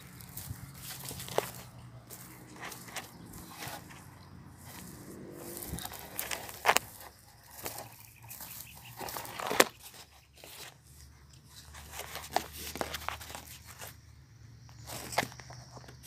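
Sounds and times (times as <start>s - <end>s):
footsteps crunching dry leaves: 0.0s - 14.0s, 14.8s - 16.0s.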